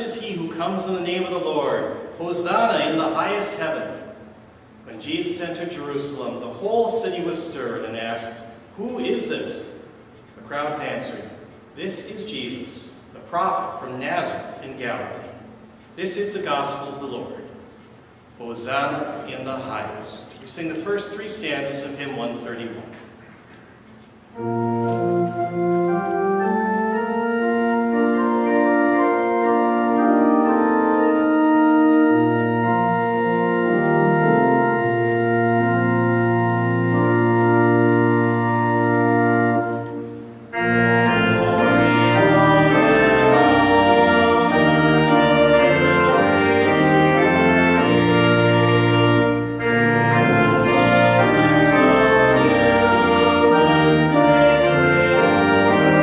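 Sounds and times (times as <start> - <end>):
church organ playing hymn: 0.0 - 23.0, 24.1 - 56.0.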